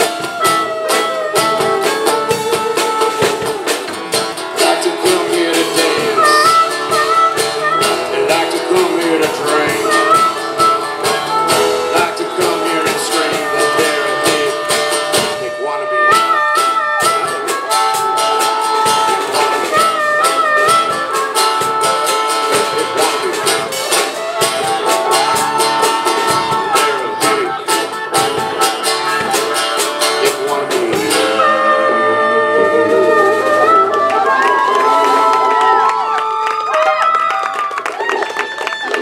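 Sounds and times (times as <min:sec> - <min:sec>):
steady drum beat: 0:00.0 - 0:31.6
bass guitar: 0:00.0 - 0:37.6
harmonica bending notes: 0:00.0 - 0:37.8
acoustic and electric guitars: 0:00.0 - 0:39.0.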